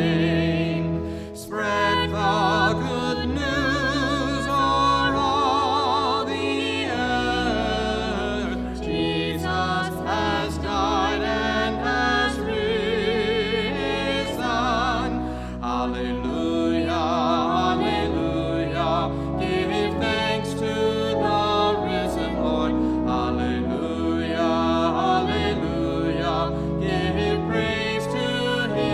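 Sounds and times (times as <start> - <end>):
person singing with wide vibrato: 0.0 - 28.9.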